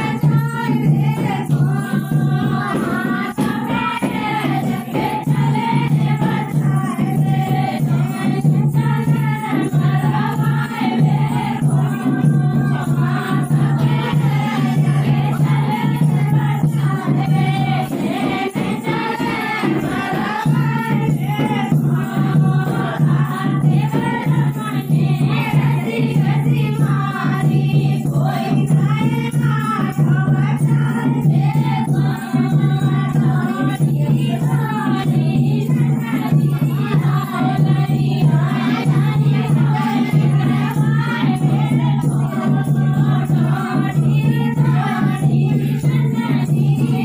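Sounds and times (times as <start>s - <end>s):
women singing a folk song: 0.0s - 47.0s.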